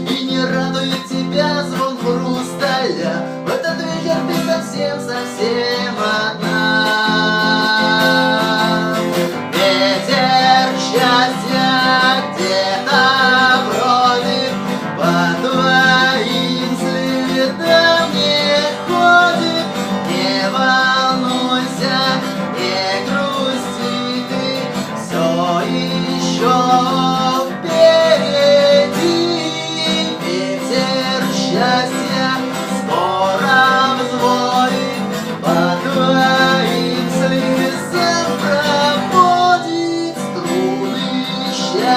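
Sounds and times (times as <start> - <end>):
acoustic guitar playing: 0.0 - 41.9.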